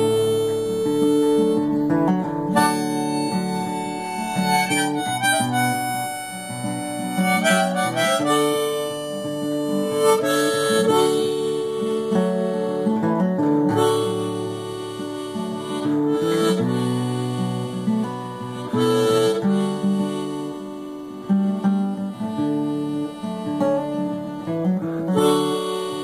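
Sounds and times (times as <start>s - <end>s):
harmonica melody: 0.0s - 26.0s
strummed acoustic guitar: 0.0s - 26.0s.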